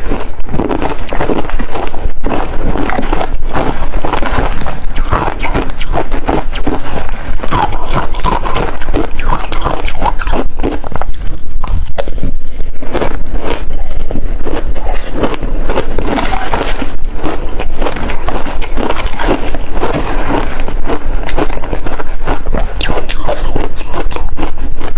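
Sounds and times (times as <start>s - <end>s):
ice crunching being chewed: 0.0s - 24.9s.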